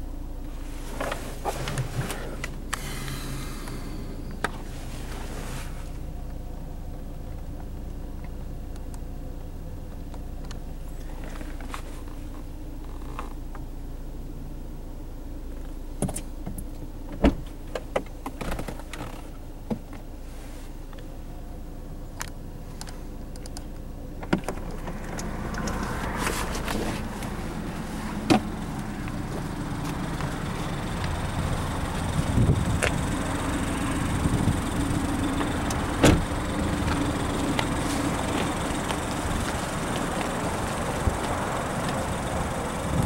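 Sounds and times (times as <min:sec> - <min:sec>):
vehicle hum: 0:00.0 - 0:43.0.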